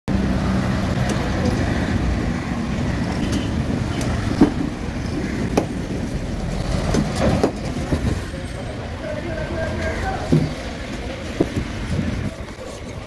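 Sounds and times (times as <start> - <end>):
traffic rumble: 0.1 - 13.0.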